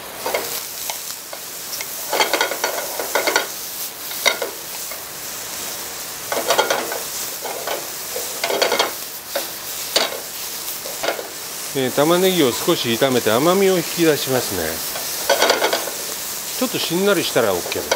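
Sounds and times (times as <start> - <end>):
onions sizzling in oil: 0.0 - 17.9.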